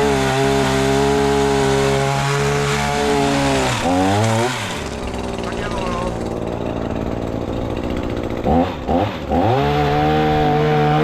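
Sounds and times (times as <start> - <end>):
pole saw revving: 0.0 - 11.0.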